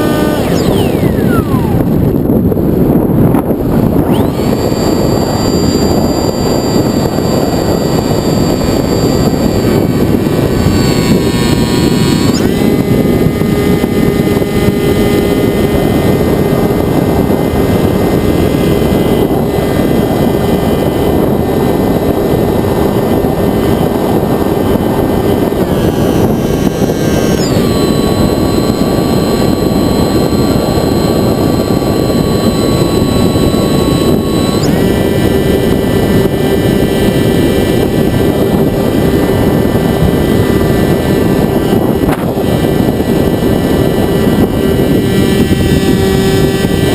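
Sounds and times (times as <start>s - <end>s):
high electric motor whine: 0.0s - 46.9s
prop wash and wind rush: 0.0s - 46.9s.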